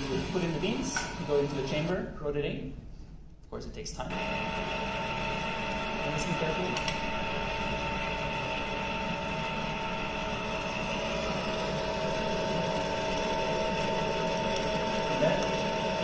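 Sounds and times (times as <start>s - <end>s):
coffee roaster drum and fan whirring: 0.0s - 2.0s, 4.1s - 16.0s.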